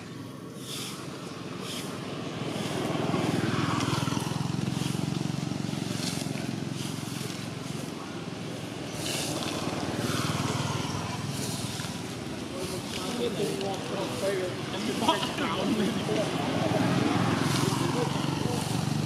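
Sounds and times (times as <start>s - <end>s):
motor engine running: 0.1s - 19.0s.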